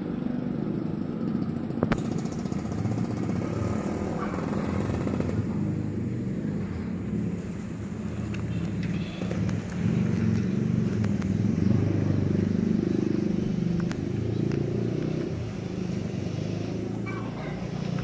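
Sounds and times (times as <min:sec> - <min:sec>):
large diesel engine running: 0:00.0 - 0:18.0.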